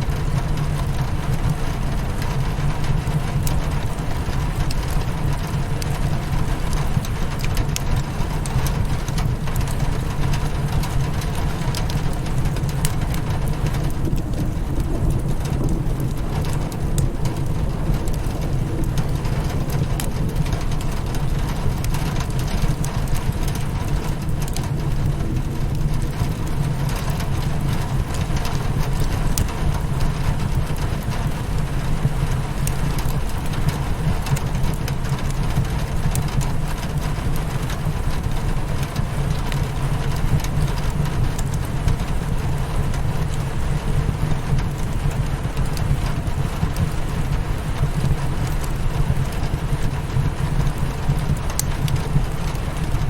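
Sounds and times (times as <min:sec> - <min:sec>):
rain pattering on a window: 0:00.0 - 0:53.0
wood fire crackling: 0:00.0 - 0:53.0.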